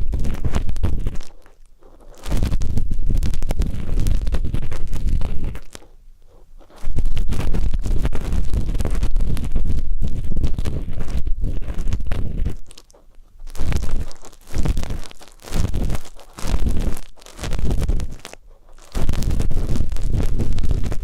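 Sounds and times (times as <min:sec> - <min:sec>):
ear pick scraping microphone: 0:00.0 - 0:21.0.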